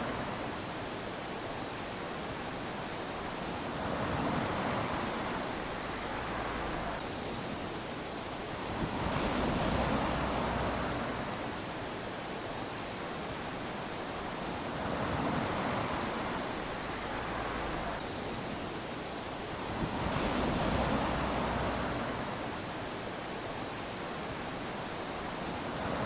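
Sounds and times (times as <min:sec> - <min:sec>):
small waves lapping on beach: 0:00.0 - 0:26.0.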